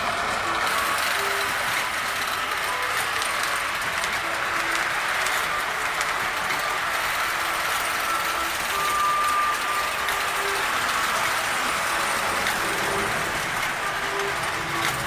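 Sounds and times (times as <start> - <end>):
toy train motors and wheels rattling: 0.0 - 15.0.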